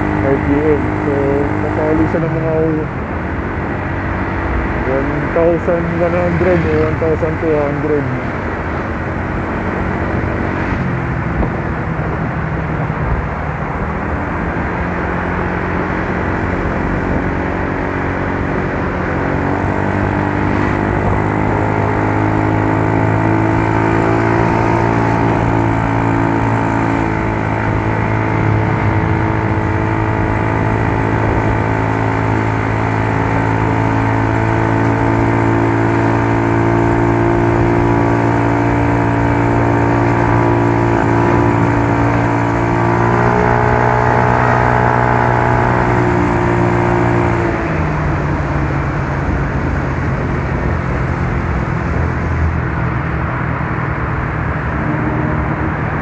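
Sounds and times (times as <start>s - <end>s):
scooter engine droning: 0.0s - 56.0s.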